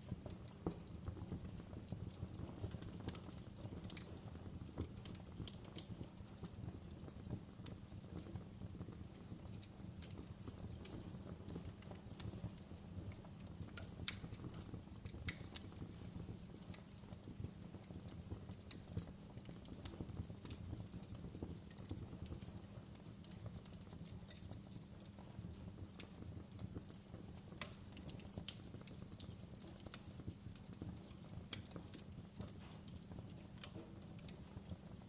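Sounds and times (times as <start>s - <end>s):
low steady fire rumble: 0.0s - 35.0s
wood fire crackling and popping: 0.0s - 35.0s.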